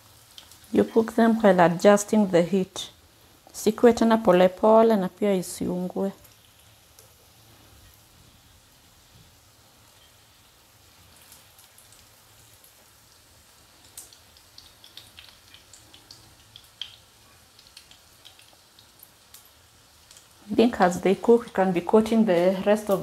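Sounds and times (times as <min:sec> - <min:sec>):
oil frying hiss with crackles: 0:00.0 - 0:23.0.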